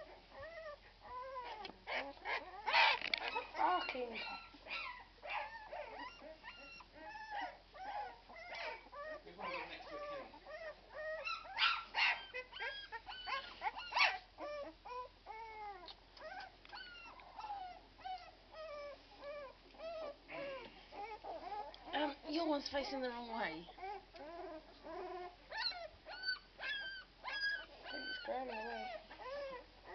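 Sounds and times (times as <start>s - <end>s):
puppies whimpering and squeaking: 0.0s - 29.9s.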